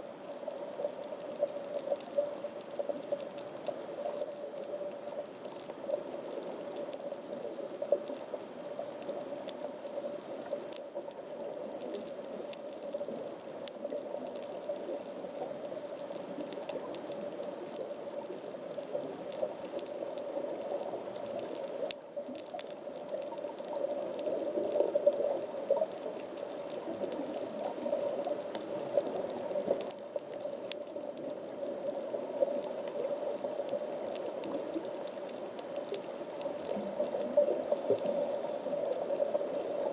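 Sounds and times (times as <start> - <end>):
underwater clicks and crackles: 0.0 - 39.9
underwater wash: 0.0 - 39.9.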